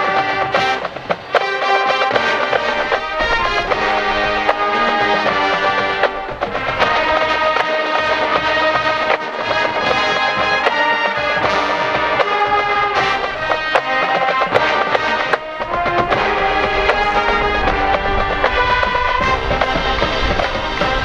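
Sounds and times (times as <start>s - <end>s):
marching band playing rock: 0.0s - 21.0s
sharp drumline strikes: 0.0s - 21.0s.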